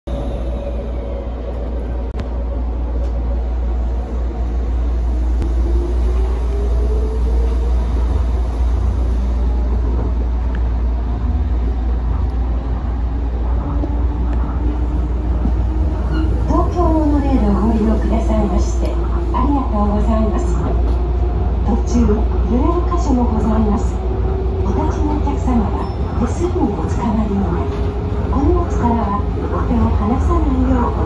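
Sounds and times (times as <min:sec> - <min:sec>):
monorail rumble on track: 0:00.0 - 0:31.0.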